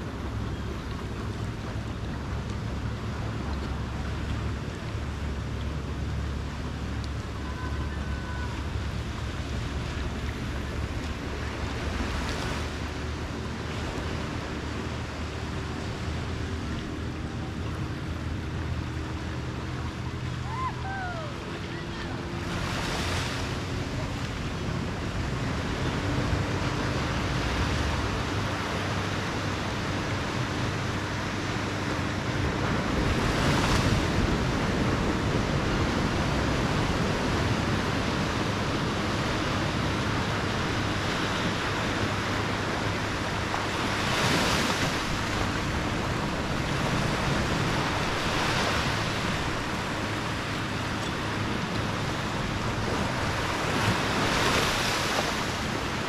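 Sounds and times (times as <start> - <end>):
small waves breaking on beach: 0.0 - 56.0.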